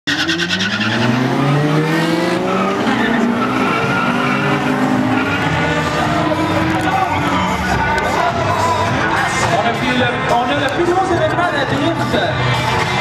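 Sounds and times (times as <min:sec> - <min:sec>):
car engine accelerating: 0:00.1 - 0:11.4
engines running steadily: 0:00.1 - 0:13.0.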